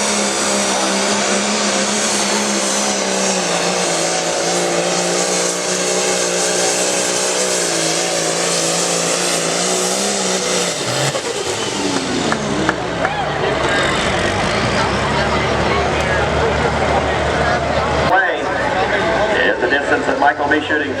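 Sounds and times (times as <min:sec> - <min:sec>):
tractor diesel engine at full throttle: 0:00.0 - 0:21.0.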